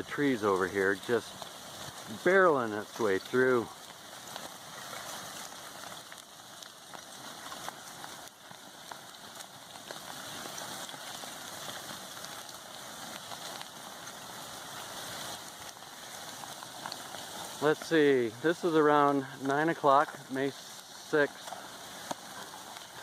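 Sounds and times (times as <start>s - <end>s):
faint crackles and pops: 0.0s - 23.0s
lava burning through brush hissing: 0.0s - 23.0s.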